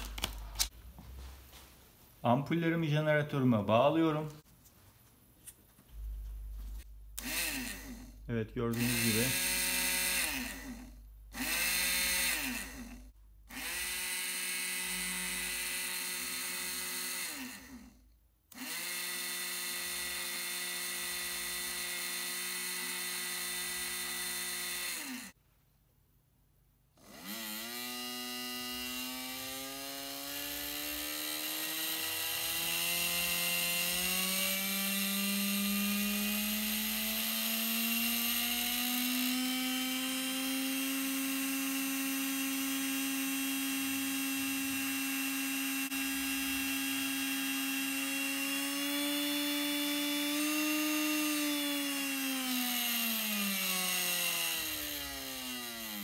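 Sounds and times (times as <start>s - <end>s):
small electric motor whining: 7.2s - 25.4s, 27.0s - 56.0s.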